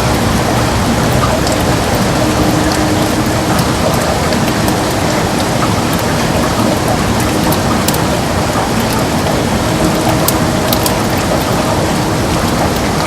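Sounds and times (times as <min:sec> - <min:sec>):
heavy rain on a window: 0:00.0 - 0:13.0
raindrop ticks: 0:00.0 - 0:13.0.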